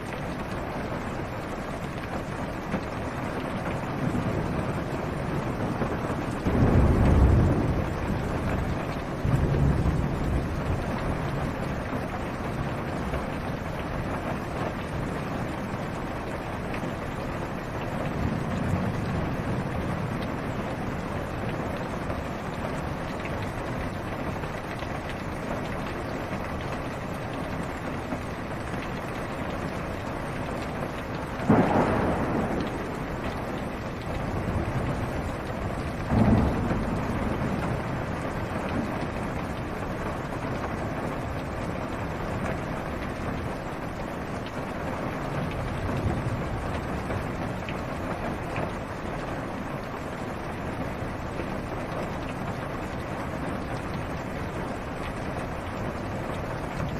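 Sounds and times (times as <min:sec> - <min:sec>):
rain on a car roof: 0:00.0 - 0:56.9
thunderclaps rumbling: 0:01.8 - 0:25.6, 0:29.5 - 0:56.9.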